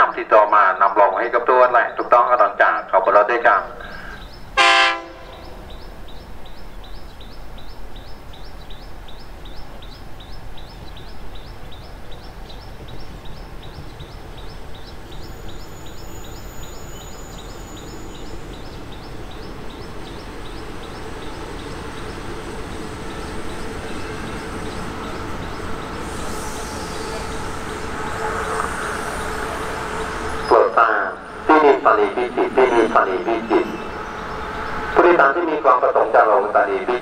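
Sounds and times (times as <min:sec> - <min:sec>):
diesel railcar approaching: 0:00.0 - 0:37.0
diesel railcar engines running: 0:00.0 - 0:37.0.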